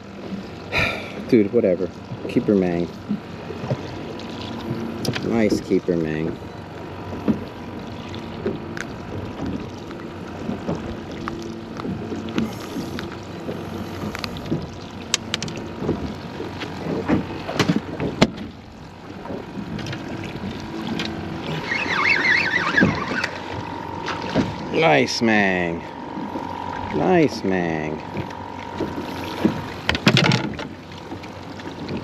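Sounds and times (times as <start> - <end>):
water slapping boat hull: 0.0 - 32.0.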